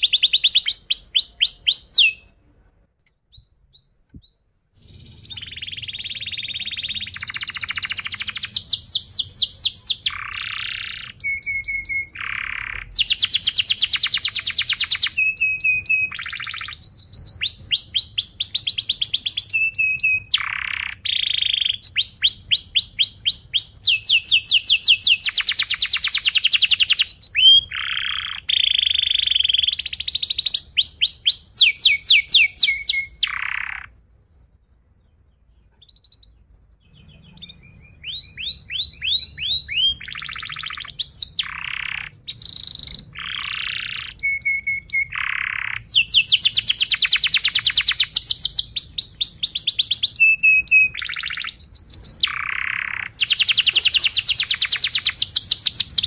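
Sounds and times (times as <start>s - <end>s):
canary singing: 0.0s - 2.4s, 3.0s - 56.0s.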